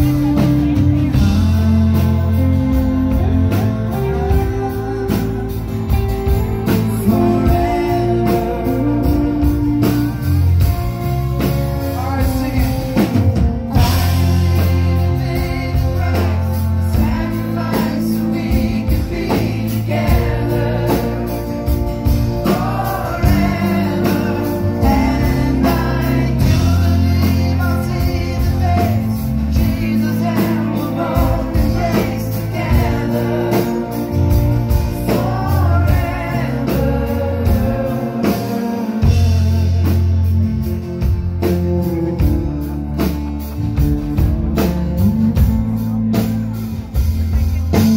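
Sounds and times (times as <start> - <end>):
person singing: 0.0 - 40.8
bass line: 0.0 - 47.9
live rock band playing: 0.0 - 47.9.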